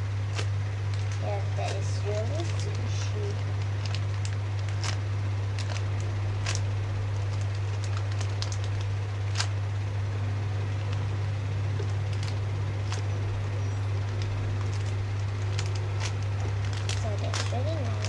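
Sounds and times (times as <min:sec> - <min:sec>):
plastic bag crackling: 0:00.0 - 0:18.0
steady low hum: 0:00.0 - 0:18.0.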